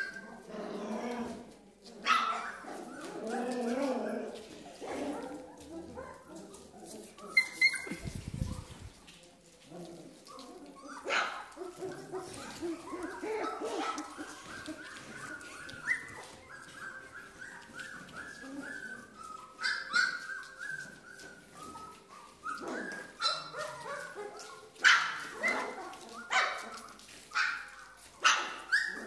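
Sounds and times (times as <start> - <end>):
puppies whining and yipping: 0.0 - 29.0.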